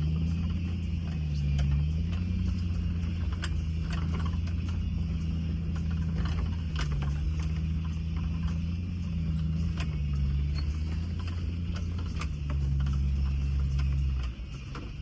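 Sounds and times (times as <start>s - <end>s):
car engine running at low speed: 0.0s - 15.0s
clicks and rattles: 0.0s - 15.0s.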